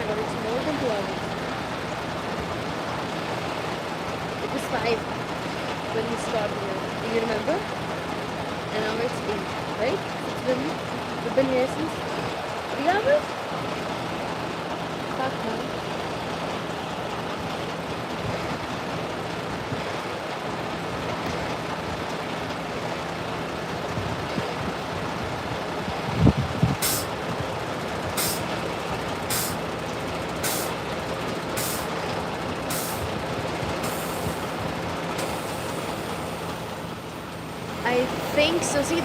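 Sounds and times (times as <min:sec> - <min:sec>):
vehicle engines idling: 0:00.0 - 0:39.0.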